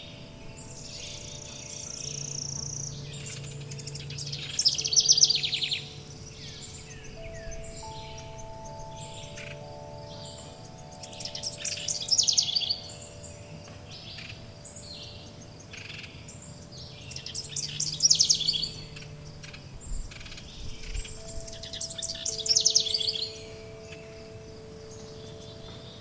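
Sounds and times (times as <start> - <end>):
songbirds singing and chirping: 0.0 - 26.0
wind chimes ringing: 0.0 - 26.0.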